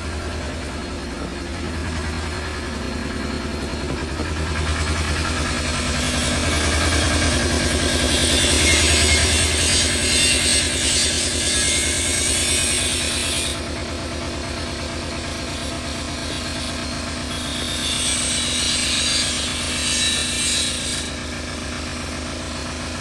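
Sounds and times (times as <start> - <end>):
low pulsing mechanical hum: 0.0 - 23.0.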